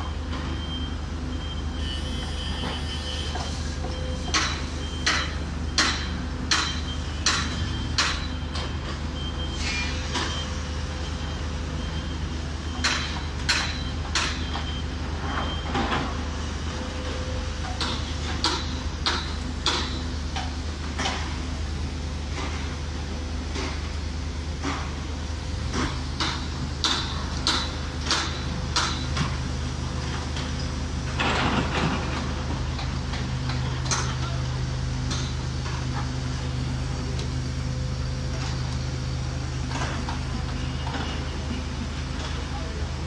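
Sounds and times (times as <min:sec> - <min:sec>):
heavy machinery engine drone: 0:00.0 - 0:43.0.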